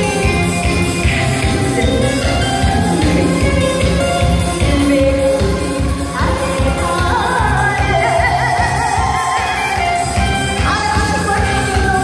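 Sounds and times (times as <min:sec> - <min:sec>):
pop song over loudspeakers: 0:00.0 - 0:12.0
person singing with vibrato: 0:01.6 - 0:12.0.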